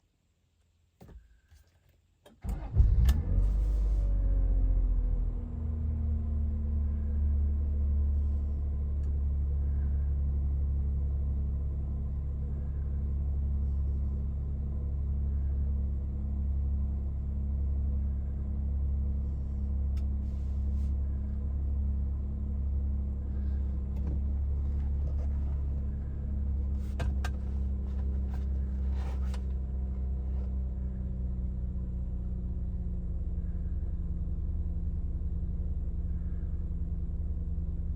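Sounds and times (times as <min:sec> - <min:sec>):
car engine idling: 0:06.2 - 0:37.9.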